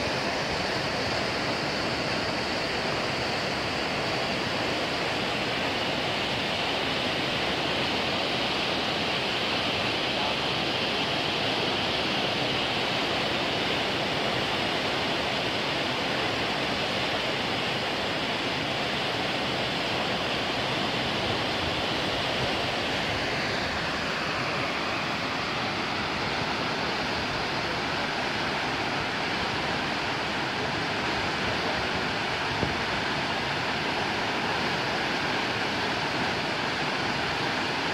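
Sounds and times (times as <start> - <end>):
turbulent water rushing: 0.0 - 37.9.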